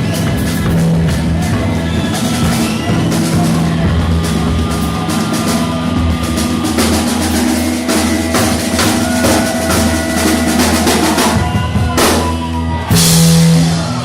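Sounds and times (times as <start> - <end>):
fast drum fills: 0.0 - 14.0
live rock band playing: 0.0 - 14.0.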